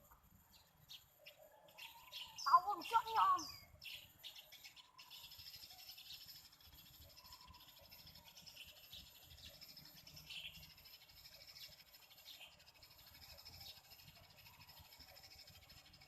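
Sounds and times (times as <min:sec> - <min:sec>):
faint sparrow chirps: 0:00.0 - 0:16.0.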